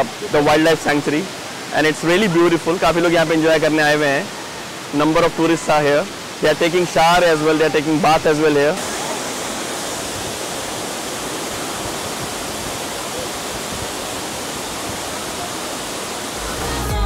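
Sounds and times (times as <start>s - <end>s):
waterfall rushing over rock: 0.0s - 17.0s.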